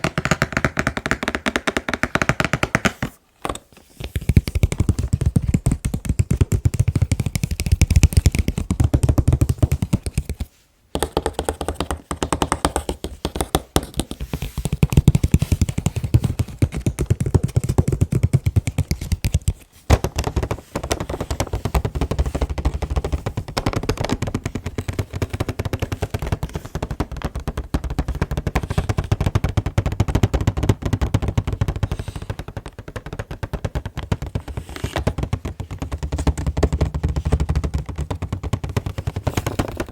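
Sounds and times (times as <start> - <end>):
fast tapping on a box: 0.0 - 3.2, 4.1 - 39.9.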